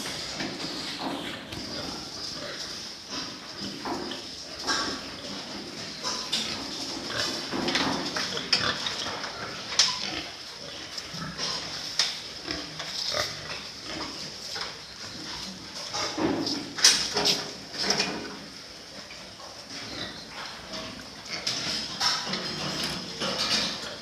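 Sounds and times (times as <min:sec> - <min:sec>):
pigs grunting: 0:00.0 - 0:24.0.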